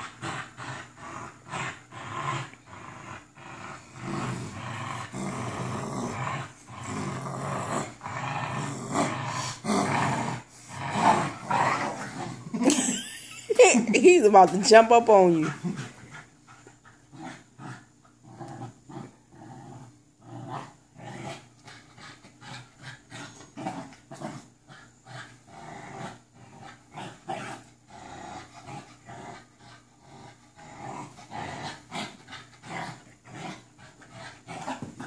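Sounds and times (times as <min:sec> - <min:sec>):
puppy growling and panting: 0:00.0 - 0:35.0.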